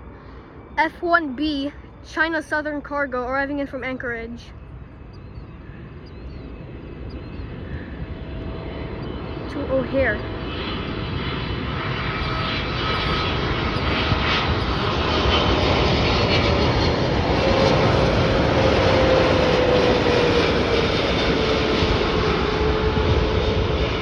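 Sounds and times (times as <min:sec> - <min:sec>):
jet airplane roar: 0:00.0 - 0:24.0
jet engine whine: 0:00.0 - 0:24.0.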